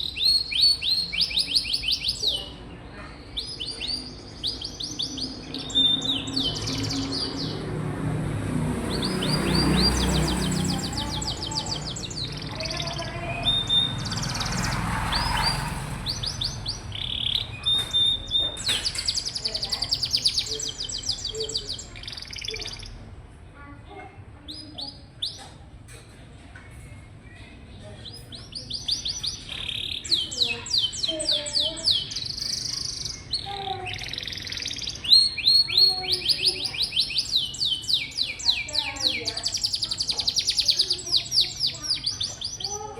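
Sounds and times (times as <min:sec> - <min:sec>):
canary singing trills: 0:00.0 - 0:23.0, 0:24.5 - 0:25.6, 0:26.9 - 0:42.9.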